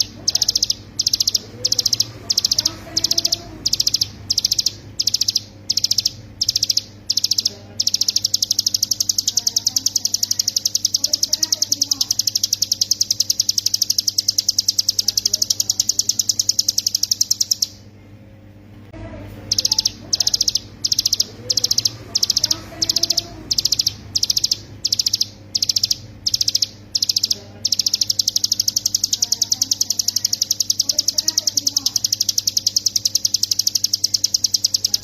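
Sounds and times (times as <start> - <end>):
bird singing rattling trill: 0.0 - 17.9, 19.5 - 35.0.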